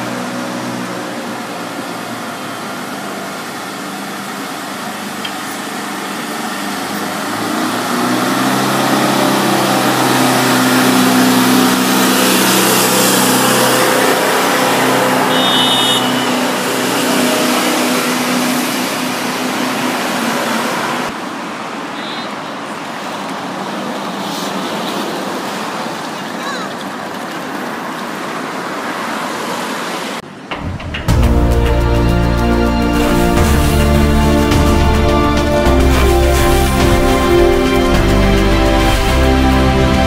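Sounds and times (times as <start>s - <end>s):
city street traffic: 0.0s - 40.0s
trolleybus electric hum: 0.0s - 40.0s.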